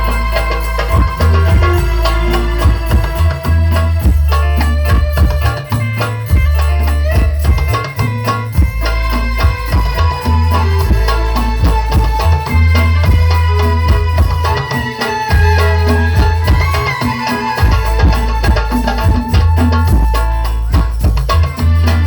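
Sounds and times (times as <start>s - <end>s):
devotional music over sound system: 0.0s - 22.0s
hand percussion strikes: 0.0s - 22.0s
heavy bass: 0.0s - 22.0s.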